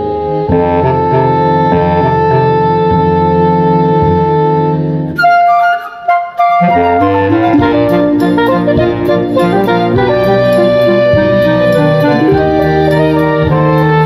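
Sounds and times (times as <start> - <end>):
instrumental music with held notes: 0.0 - 14.0.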